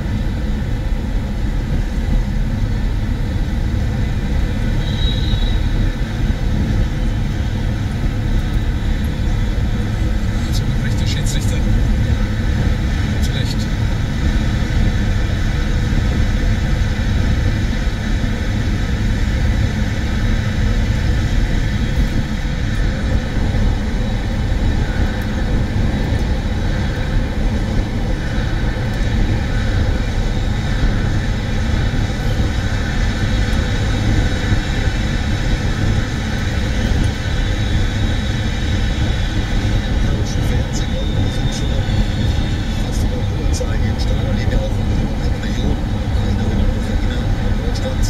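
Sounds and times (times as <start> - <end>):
tyre wind and engine rumble: 0.0 - 48.0.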